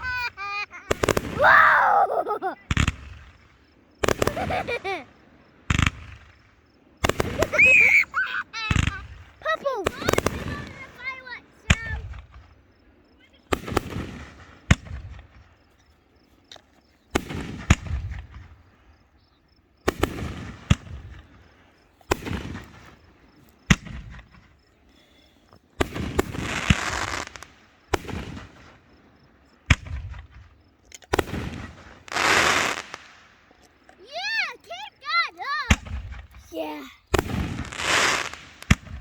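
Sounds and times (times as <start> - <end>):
fireworks bursting with bangs: 0.0 - 15.7, 17.1 - 19.0, 19.8 - 39.0.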